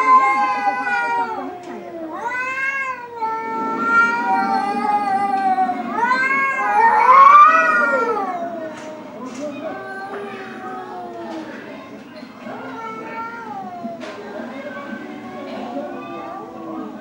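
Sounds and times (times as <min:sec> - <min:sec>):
cat yowling: 0:00.0 - 0:11.5, 0:12.6 - 0:16.7.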